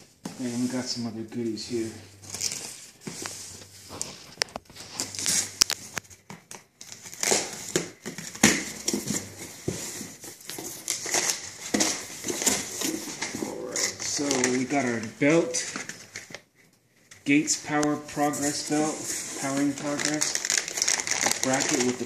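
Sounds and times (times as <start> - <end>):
plastic packaging crinkling: 2.1 - 16.4, 17.8 - 22.0.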